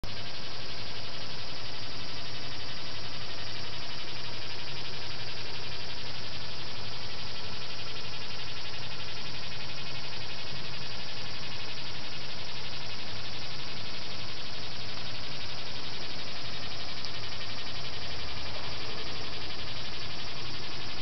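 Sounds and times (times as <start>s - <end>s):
steady hiss: 0.1s - 21.0s.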